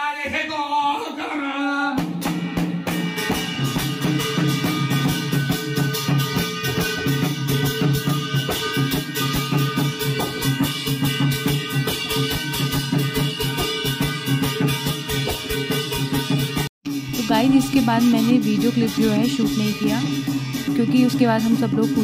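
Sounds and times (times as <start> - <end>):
fast folk drumbeat: 2.0 - 22.0.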